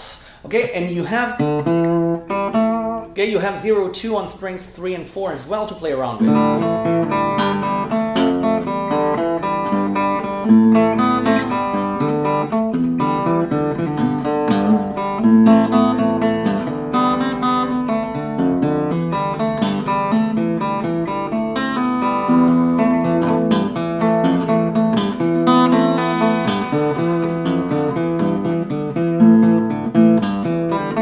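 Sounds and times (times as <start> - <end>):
fingerstyle acoustic guitar: 1.4 - 3.2, 6.2 - 31.0.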